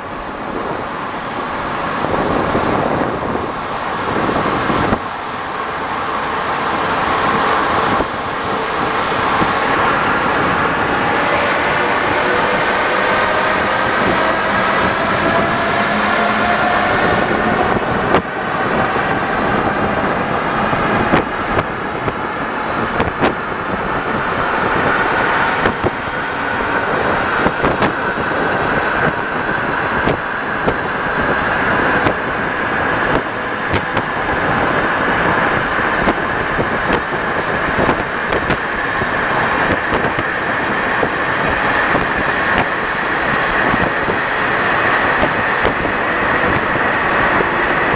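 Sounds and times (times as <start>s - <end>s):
train traction motor whine: 0.0s - 47.9s.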